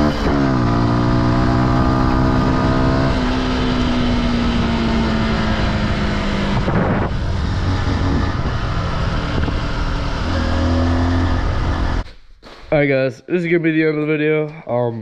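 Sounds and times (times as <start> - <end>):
off-road vehicle engine running: 0.0 - 12.1.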